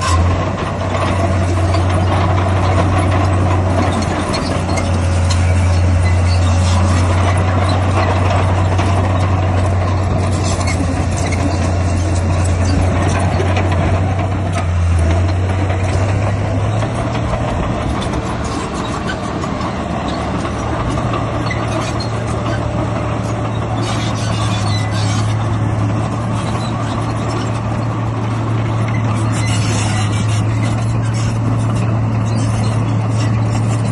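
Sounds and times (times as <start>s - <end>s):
heavy diesel engine droning: 0.0s - 33.9s.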